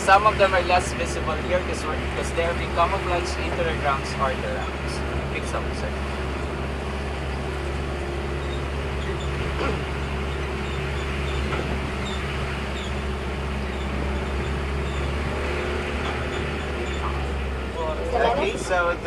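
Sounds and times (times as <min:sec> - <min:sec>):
road noise: 0:00.0 - 0:19.0
vehicle engine running: 0:00.0 - 0:19.0.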